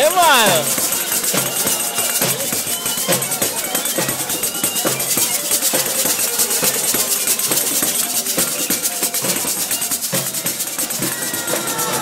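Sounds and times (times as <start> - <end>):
drum beats: 0.0 - 12.0
fast shaker rhythm: 0.0 - 12.0.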